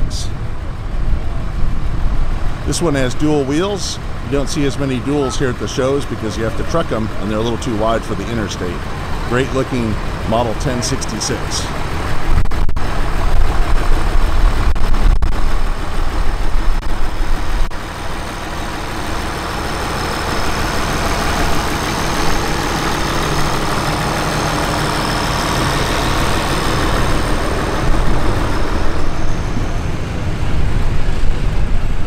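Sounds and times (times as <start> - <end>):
tractor diesel engine passing: 0.0 - 32.0.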